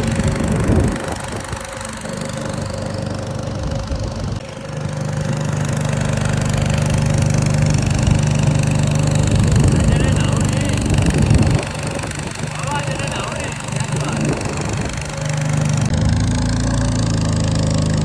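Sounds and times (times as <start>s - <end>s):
small boat engine running: 0.0s - 18.0s.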